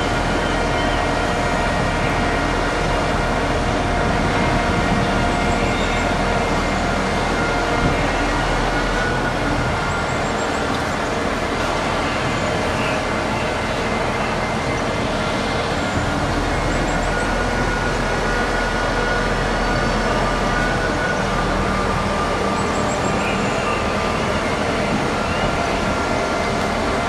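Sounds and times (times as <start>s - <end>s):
construction machinery rumble: 0.0s - 27.0s
traffic: 0.0s - 27.0s.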